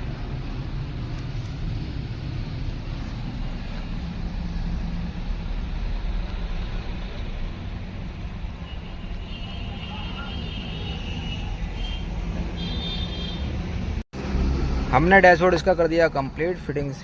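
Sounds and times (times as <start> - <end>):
low rumble of vehicle noise: 0.0 - 17.0.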